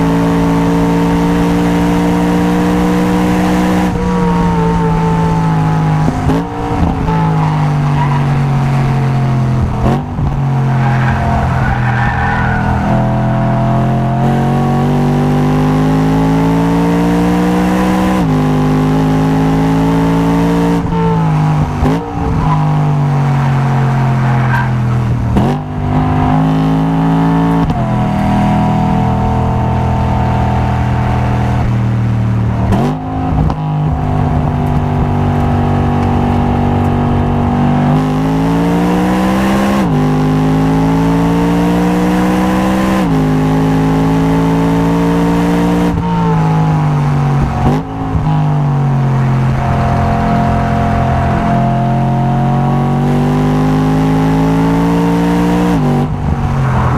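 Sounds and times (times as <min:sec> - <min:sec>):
race car engine revving: 0:00.0 - 0:56.9.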